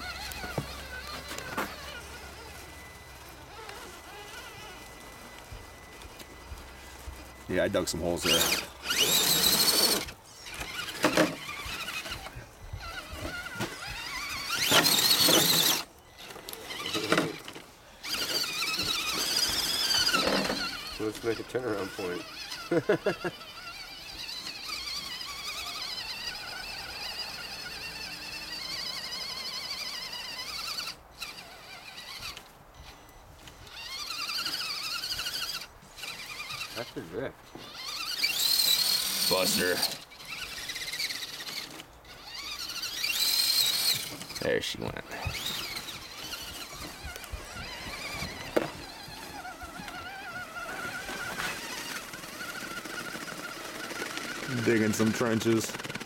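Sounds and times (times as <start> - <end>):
electric motor whining: 0.0 - 56.0.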